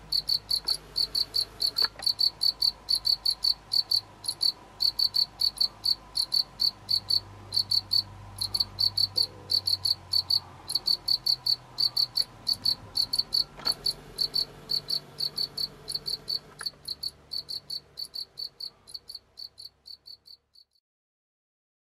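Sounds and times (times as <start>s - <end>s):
cricket chirping: 0.1s - 20.8s.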